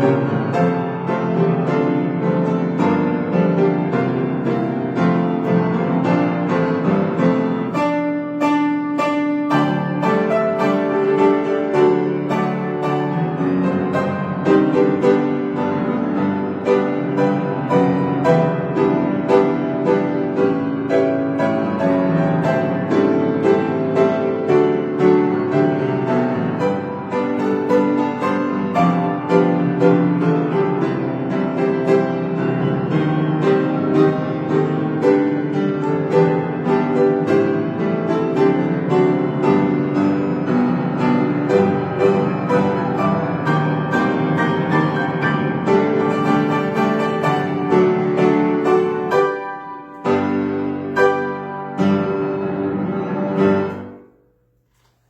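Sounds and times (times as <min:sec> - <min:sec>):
piano playing a hymn: 0:00.0 - 0:55.0.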